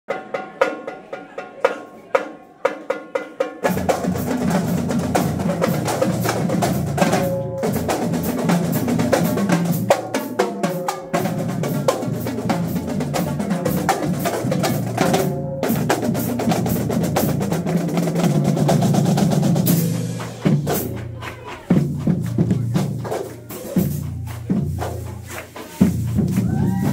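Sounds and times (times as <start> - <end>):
marching drumline playing: 0.1 - 26.9
tenor drum strokes: 0.1 - 26.9.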